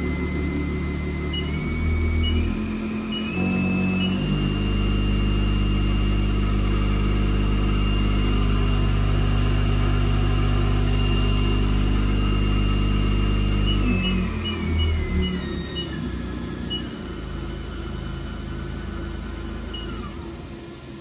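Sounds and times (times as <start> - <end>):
lathe spindle motor whine: 0.0 - 21.0.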